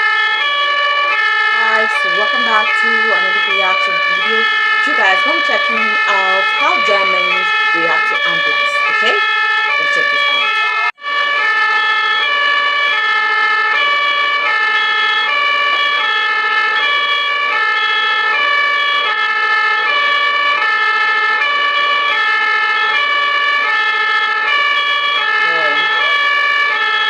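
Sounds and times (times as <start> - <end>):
two-tone ambulance siren: 0.0 - 27.0.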